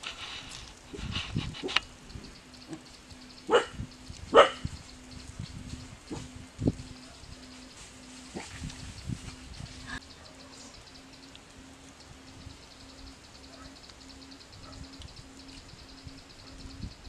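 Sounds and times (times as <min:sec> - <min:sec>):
low repeated animal call: 0:00.9 - 0:17.0
fast high chirring: 0:01.0 - 0:17.0.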